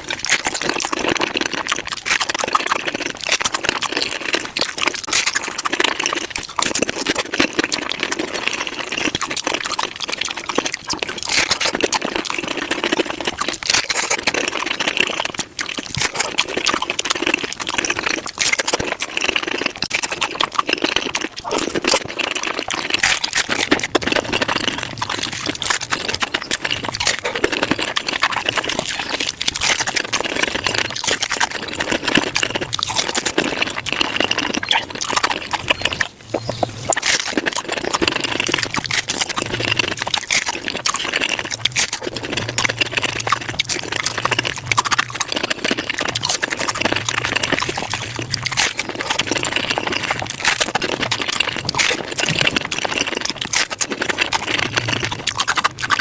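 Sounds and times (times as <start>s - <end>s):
sped-up crunching and chewing: 0.0s - 56.0s.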